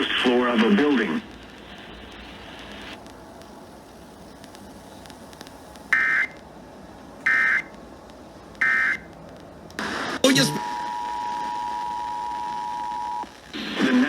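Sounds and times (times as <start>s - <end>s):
broadcast hiss: 0.0s - 14.0s.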